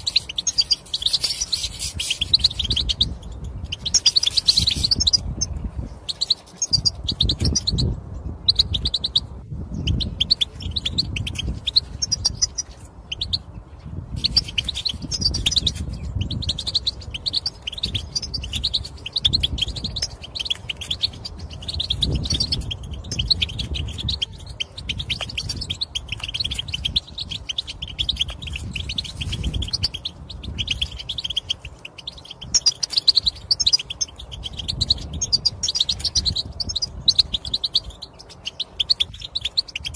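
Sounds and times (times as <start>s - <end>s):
bird chirping calls: 0.0s - 39.9s.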